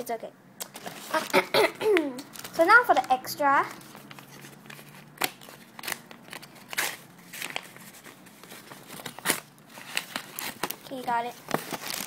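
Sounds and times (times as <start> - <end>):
paper crackling and rustling: 0.7 - 1.5, 2.3 - 12.0.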